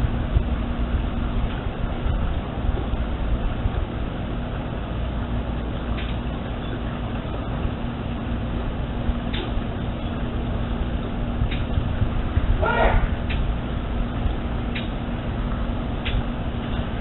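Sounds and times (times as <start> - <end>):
background rumble: 0.0 - 17.0
low hum: 0.0 - 17.0.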